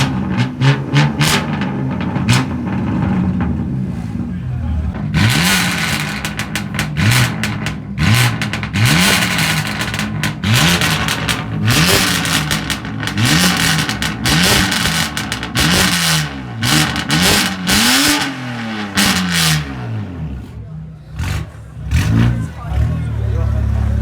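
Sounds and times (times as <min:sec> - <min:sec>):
exhaust crackling pops: 0:00.0 - 0:04.3, 0:04.9 - 0:19.9
car engine revving: 0:00.0 - 0:24.0.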